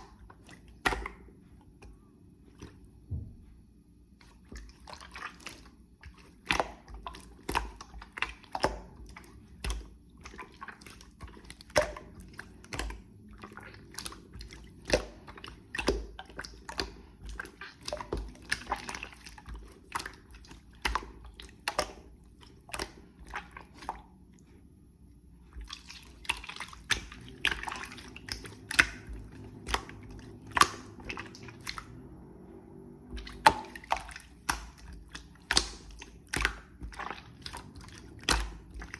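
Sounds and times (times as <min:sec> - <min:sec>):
slime squishing with wet pops: 0:00.0 - 0:32.1, 0:33.0 - 0:38.9.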